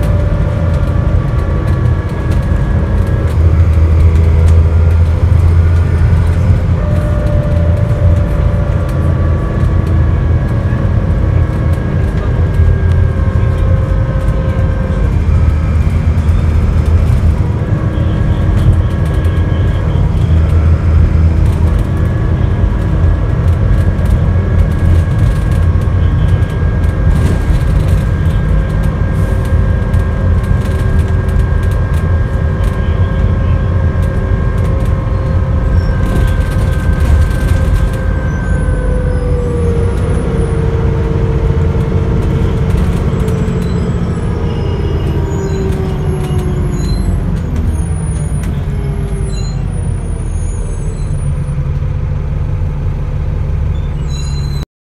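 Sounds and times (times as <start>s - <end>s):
driveline whine: 0.0s - 52.8s
bus diesel engine drone: 0.0s - 54.7s.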